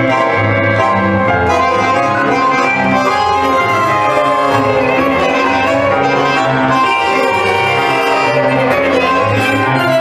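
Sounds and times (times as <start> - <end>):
orchestra playing tango: 0.0 - 10.0.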